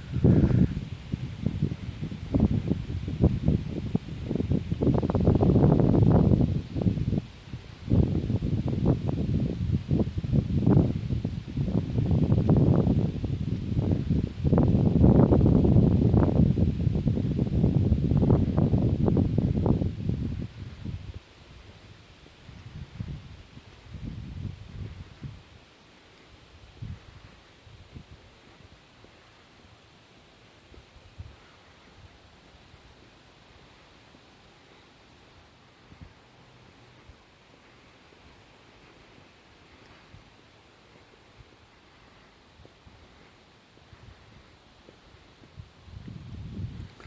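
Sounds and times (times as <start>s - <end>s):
insects chirring: 0.0s - 47.0s.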